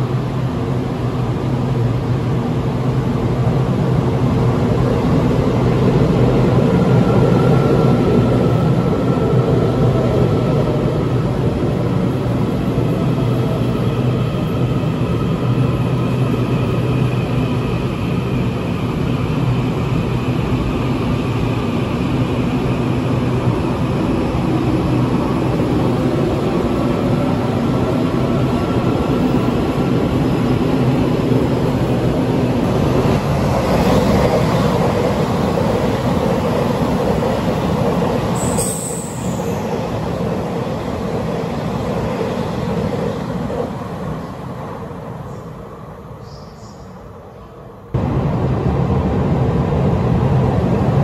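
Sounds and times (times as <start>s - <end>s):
express train rushing past: 0.0s - 51.0s.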